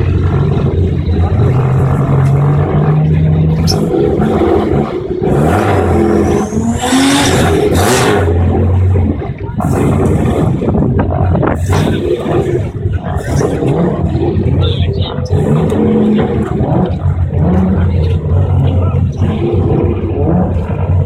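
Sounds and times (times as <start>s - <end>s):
car engines revving: 0.0s - 21.0s
rising whine: 0.0s - 21.0s.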